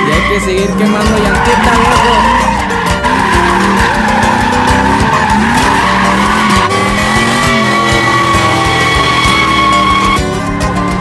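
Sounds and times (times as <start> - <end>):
truck engine revving: 0.0 - 11.0
tyres screeching on pavement: 0.0 - 11.0.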